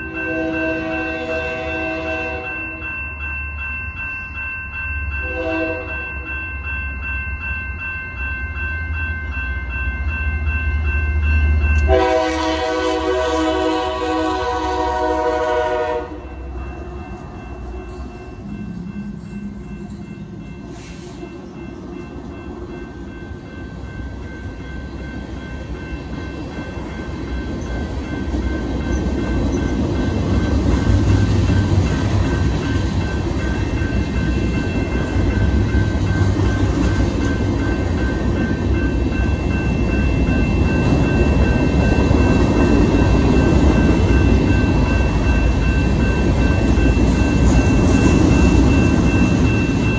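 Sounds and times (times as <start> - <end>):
electronic crossing bells ringing: 0.0 - 49.9
freight train rumbling on rails: 0.0 - 49.9.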